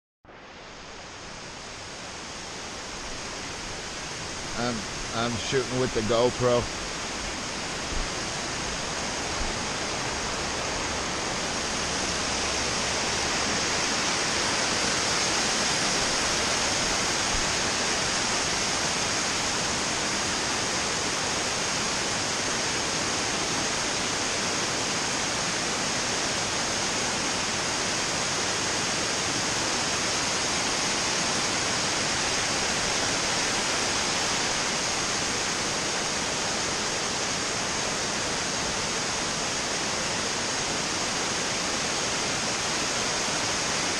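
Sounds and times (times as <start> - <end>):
waterfall rushing: 0.3 - 43.9.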